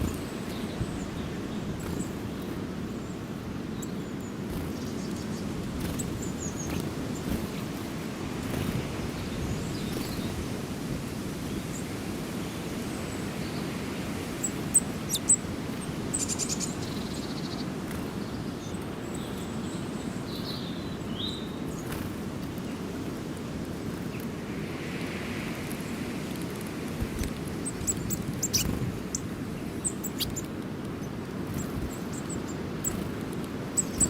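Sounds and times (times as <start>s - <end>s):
small birds chirping: 0.0s - 10.8s, 11.4s - 34.0s.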